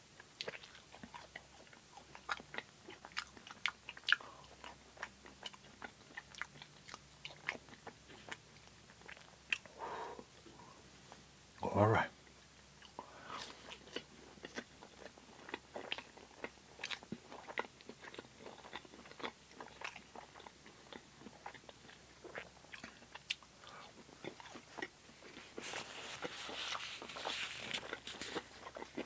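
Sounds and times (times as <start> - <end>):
chewing crispy food: 0.0 - 10.7, 12.2 - 29.0.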